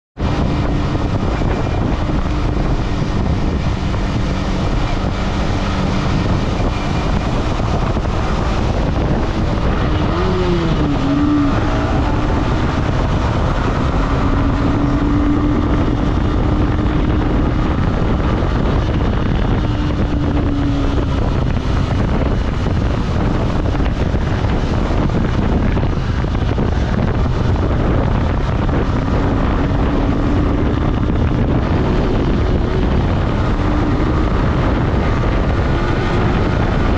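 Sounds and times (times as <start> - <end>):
wind and road noise: 0.1 - 36.9
motorcycle engine running: 0.2 - 36.9.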